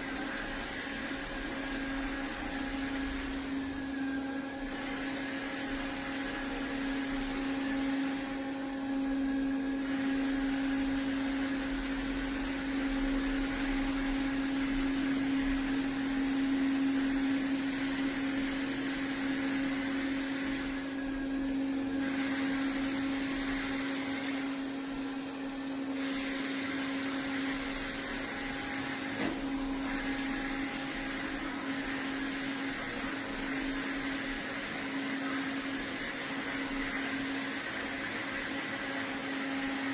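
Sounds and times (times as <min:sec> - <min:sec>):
robot vacuum running: 0:00.0 - 0:39.9.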